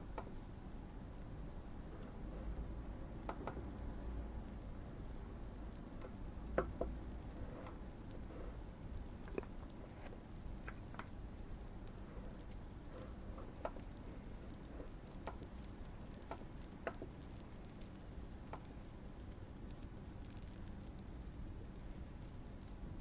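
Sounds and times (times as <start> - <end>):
fireplace crackling and popping: 0.0 - 23.0.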